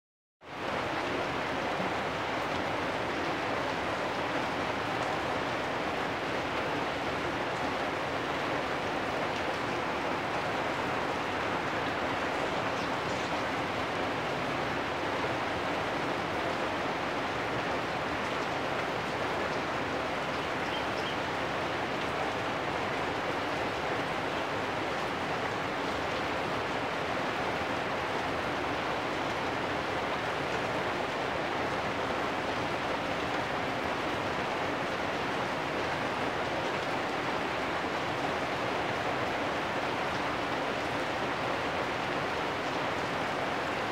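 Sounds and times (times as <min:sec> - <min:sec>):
rain on metal roofs: 0:00.4 - 0:43.9.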